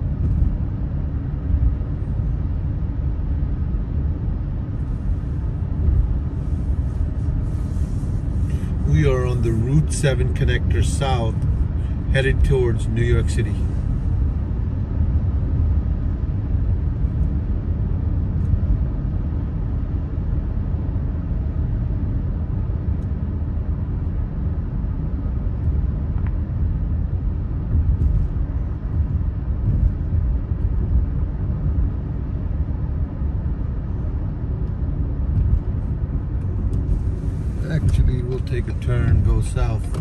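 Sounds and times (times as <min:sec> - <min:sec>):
car driving on highway: 0:00.0 - 0:40.0.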